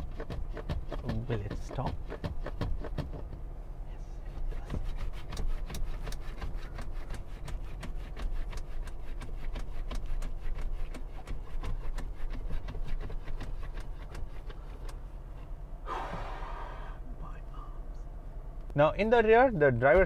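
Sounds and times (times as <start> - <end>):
faint steady hum: 2.8 - 20.0.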